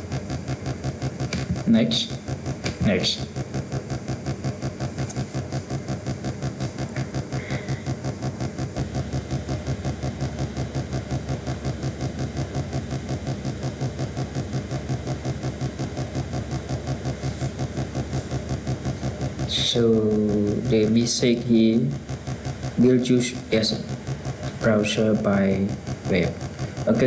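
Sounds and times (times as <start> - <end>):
machine hum with fast throb: 0.0 - 27.0.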